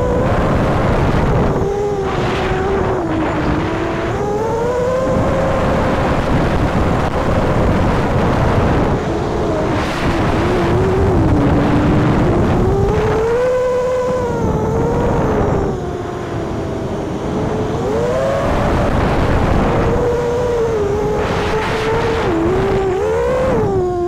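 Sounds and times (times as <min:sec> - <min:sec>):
drone motors whining: 0:00.0 - 0:24.0
wind noise: 0:00.0 - 0:24.0.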